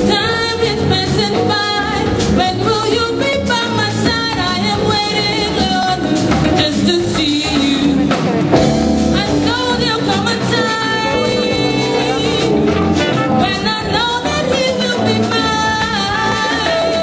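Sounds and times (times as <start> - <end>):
congas: 0.0 - 17.0
drum kit: 0.0 - 17.0
person singing: 0.0 - 17.0
saxophone: 0.0 - 17.0.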